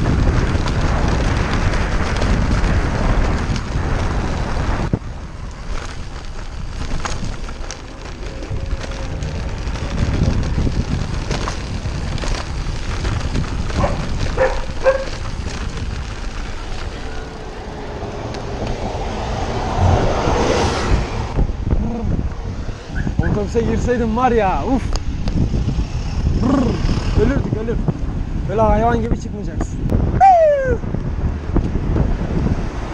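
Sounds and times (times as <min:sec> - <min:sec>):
rumble of passing vehicles: 0:00.0 - 0:32.9
wind rushing over microphone: 0:00.0 - 0:32.9.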